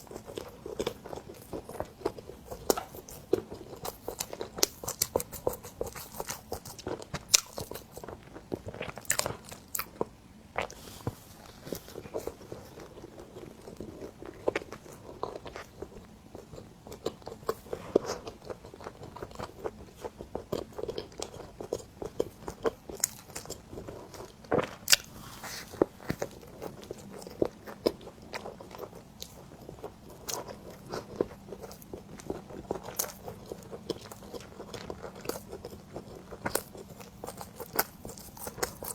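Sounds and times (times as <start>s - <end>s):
bread being bitten and chewed: 0.0s - 38.9s.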